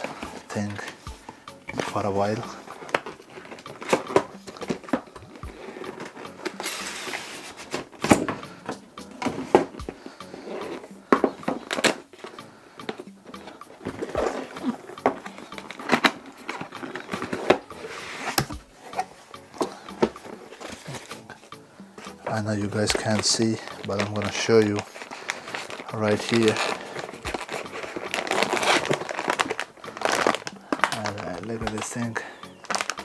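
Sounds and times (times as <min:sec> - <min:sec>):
packaging rustling: 0:00.0 - 0:33.0.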